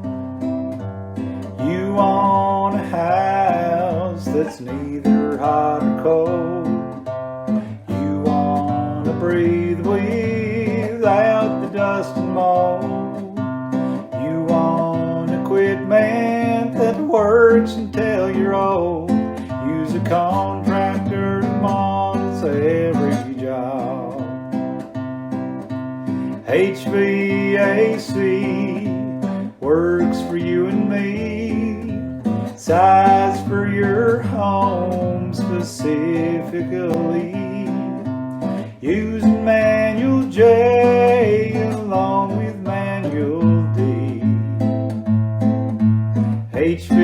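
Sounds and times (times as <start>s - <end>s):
acoustic guitar strumming chords: 0.0s - 47.0s
wavering guitar melody: 0.0s - 47.0s.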